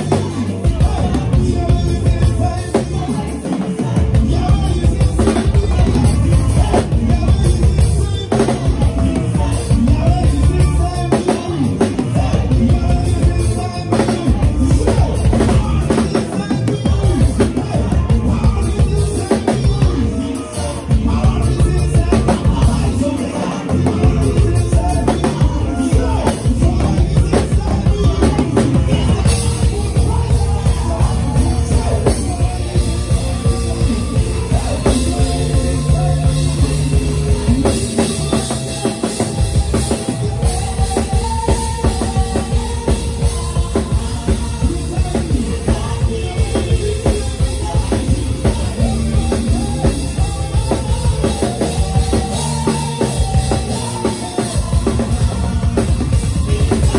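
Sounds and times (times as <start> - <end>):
bass guitar: 0.0 - 56.9
drum kit: 0.0 - 56.9
live band playing upbeat groove: 0.0 - 56.9.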